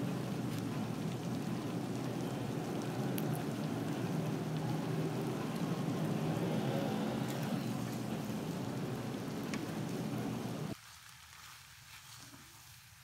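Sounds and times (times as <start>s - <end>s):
stir-fry sizzling in a wok: 0.0s - 13.0s
faint clicks: 0.3s - 10.8s.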